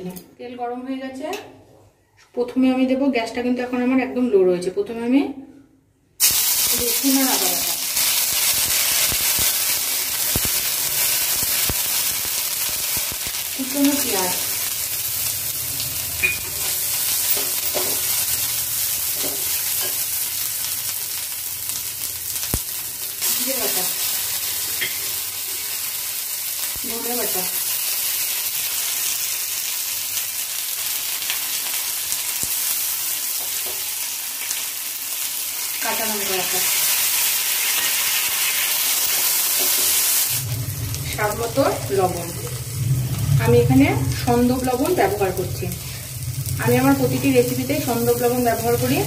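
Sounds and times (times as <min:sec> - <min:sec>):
onion sizzling in hot oil: 0:06.2 - 0:49.0.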